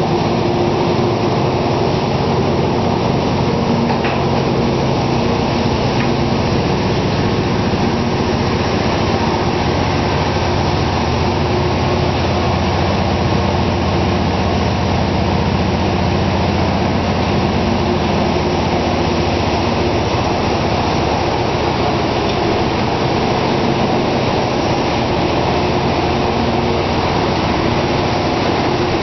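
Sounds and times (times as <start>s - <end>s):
steam engines running: 0.0s - 29.0s.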